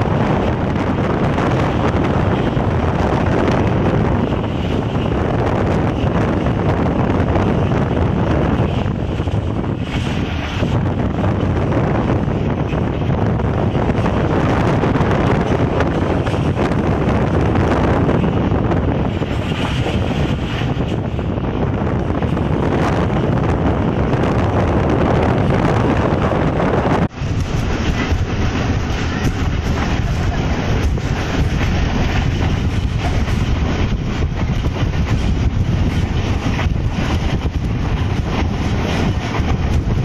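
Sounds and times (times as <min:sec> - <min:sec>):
train running on track: 0:00.0 - 0:40.0
wind rushing over microphone: 0:00.0 - 0:40.0.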